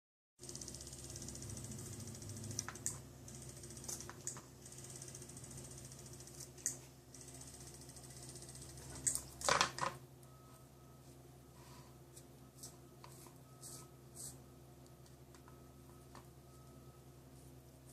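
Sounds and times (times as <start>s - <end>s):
steady low hum: 0.4s - 17.9s.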